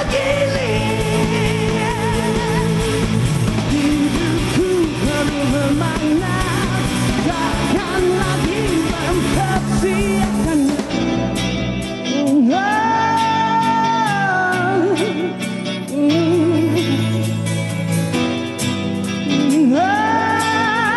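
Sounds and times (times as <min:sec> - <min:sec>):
lead vocalist singing: 0:00.0 - 0:17.7, 0:19.2 - 0:20.9
rock band playing: 0:00.0 - 0:20.9.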